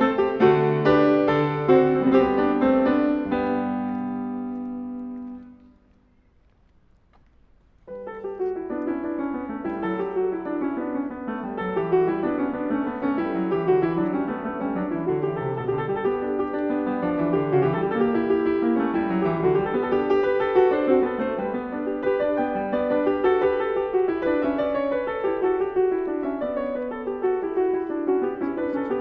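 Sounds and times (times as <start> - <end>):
piano music: 0.0 - 5.8, 7.8 - 29.0.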